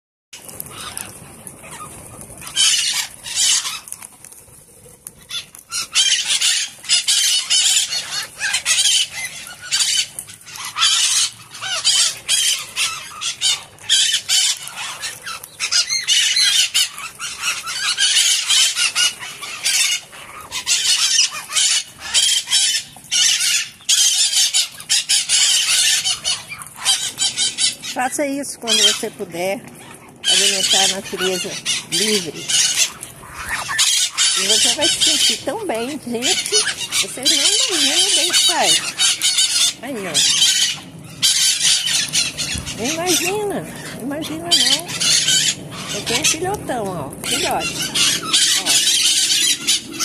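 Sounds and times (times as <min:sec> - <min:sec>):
parakeets screeching: 0:00.4 - 0:50.0.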